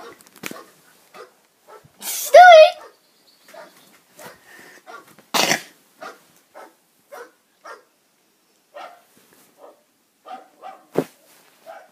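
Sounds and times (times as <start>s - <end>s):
short dog barks: 0.0s - 7.9s, 8.8s - 11.9s.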